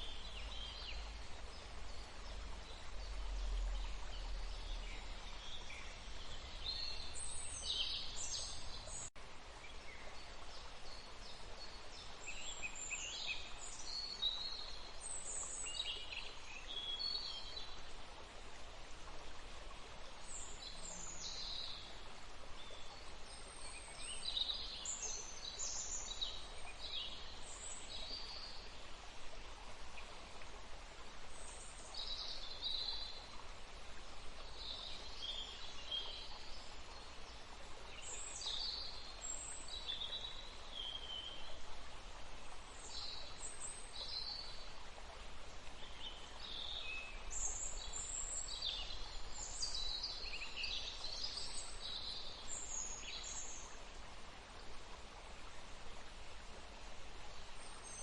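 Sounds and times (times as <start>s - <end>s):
water flowing: 0.0s - 58.0s.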